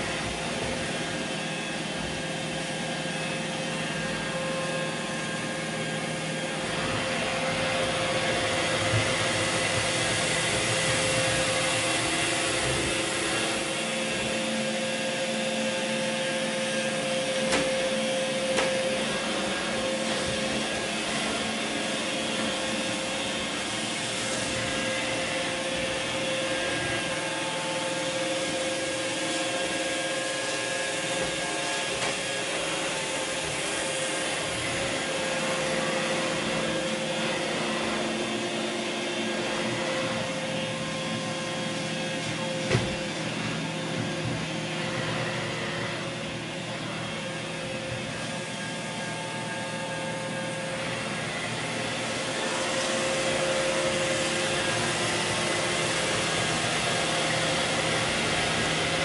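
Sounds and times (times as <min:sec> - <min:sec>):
robot vacuum running: 0:00.0 - 0:59.0.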